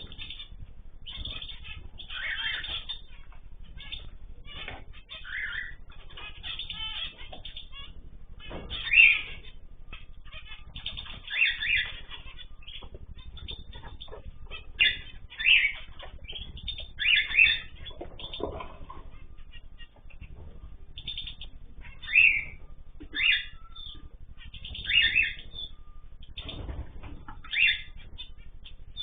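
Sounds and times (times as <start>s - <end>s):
cage birds chirping: 0.0s - 29.0s.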